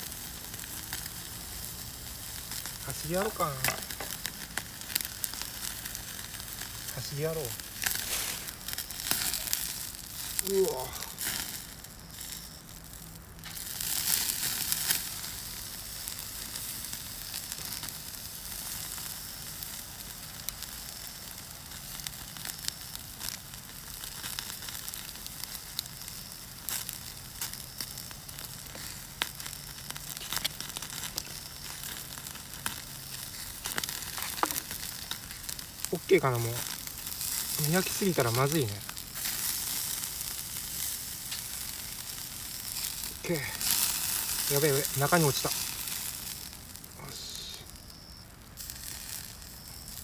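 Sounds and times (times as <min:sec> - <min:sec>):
steak sizzling on a grill: 0:00.0 - 0:50.0.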